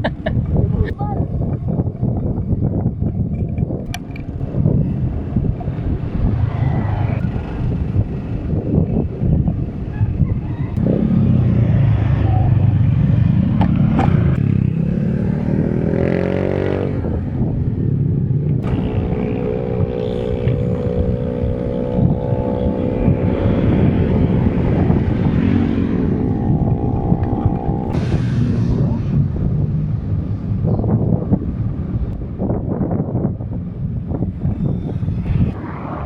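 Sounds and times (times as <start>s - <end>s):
road traffic: 0.0s - 36.0s
vehicle engine: 0.0s - 36.0s
wind rumbling on microphone: 0.0s - 36.0s.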